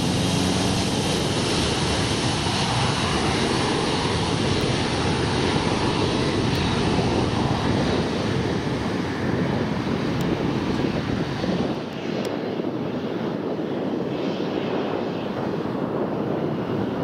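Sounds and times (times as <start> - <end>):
jet engines at taxi power: 0.0 - 17.0.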